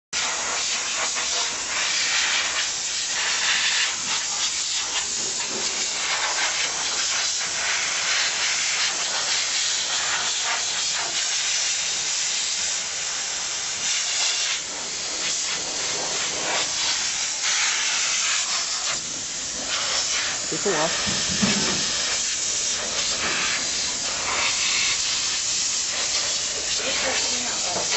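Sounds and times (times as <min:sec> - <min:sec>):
steam cleaner hissing: 0:00.2 - 0:27.9.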